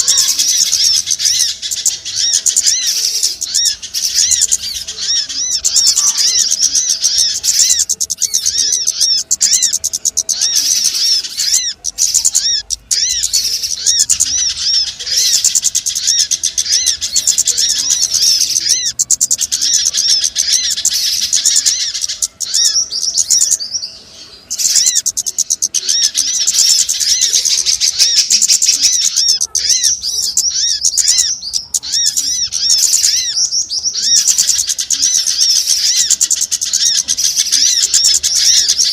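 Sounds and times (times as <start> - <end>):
rapid high bird chirps: 0.0 - 38.9.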